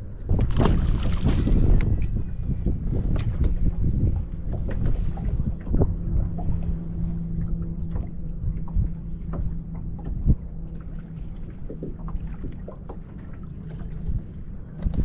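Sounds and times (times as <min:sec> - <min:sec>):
steady low hum: 0:00.0 - 0:15.0
water slapping against boat hull: 0:00.0 - 0:15.0.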